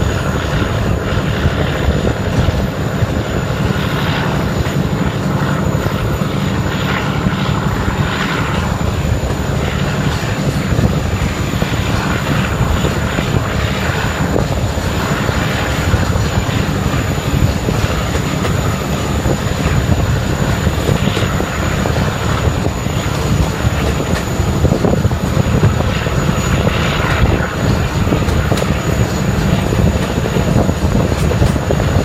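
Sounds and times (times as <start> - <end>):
diesel locomotive drone: 0.0 - 32.0
wheel and rail noise: 0.0 - 32.0.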